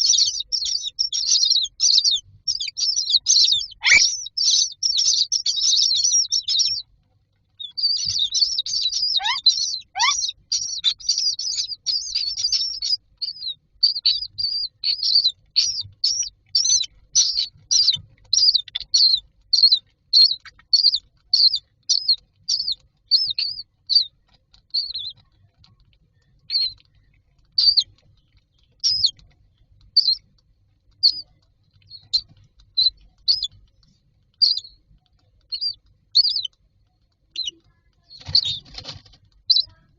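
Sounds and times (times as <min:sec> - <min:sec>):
bird chicks begging calls: 0:00.0 - 0:06.9, 0:07.5 - 0:25.3, 0:26.4 - 0:28.0, 0:28.6 - 0:29.3, 0:29.9 - 0:30.2, 0:31.0 - 0:33.6, 0:34.4 - 0:34.8, 0:35.5 - 0:36.5, 0:37.3 - 0:39.9.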